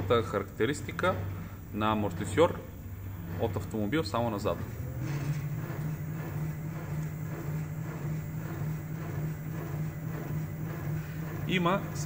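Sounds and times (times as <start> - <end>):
test bench drive humming: 0.0 - 12.0.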